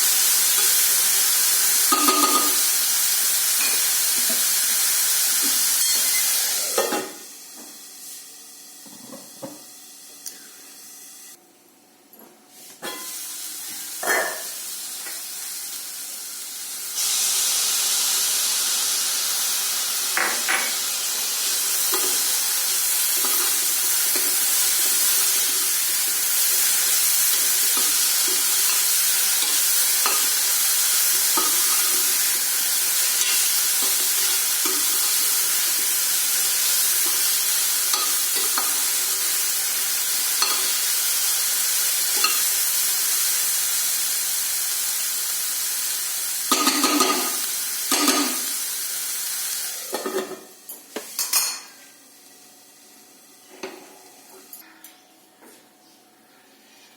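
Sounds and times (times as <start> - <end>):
food sizzling in hot oil: 0.0 - 10.1, 12.6 - 52.9.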